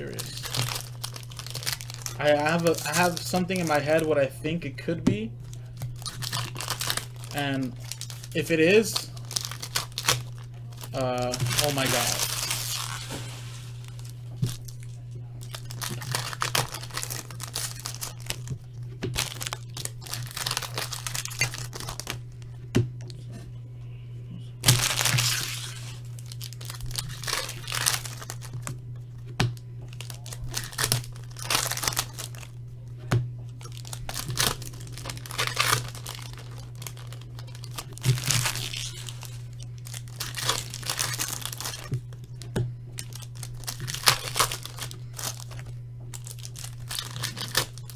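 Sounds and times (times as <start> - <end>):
foil wrappers tearing and crinkling: 0.0 - 22.2, 24.6 - 28.8, 29.5 - 32.6, 33.6 - 42.4, 43.0 - 47.9
steady low hum: 0.0 - 47.9.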